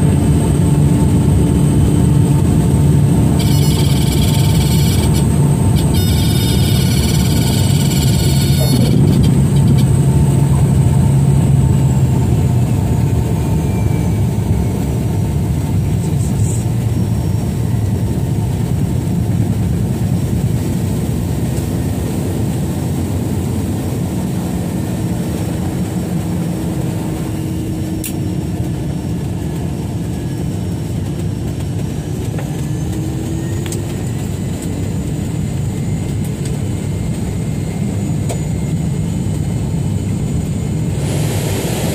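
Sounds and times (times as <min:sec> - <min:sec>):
propeller aircraft engine drone: 0:00.0 - 0:41.9.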